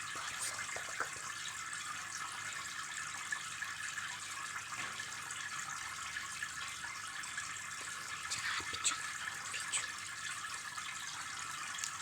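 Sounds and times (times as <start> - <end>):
water trickling in fish tank: 0.0 - 12.0.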